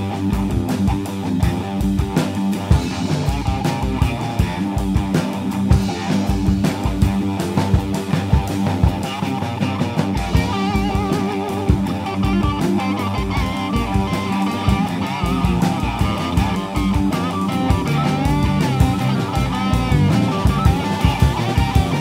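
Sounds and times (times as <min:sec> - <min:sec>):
drum kit: 0:00.0 - 0:22.0
guitar lead with bending notes: 0:00.0 - 0:22.0.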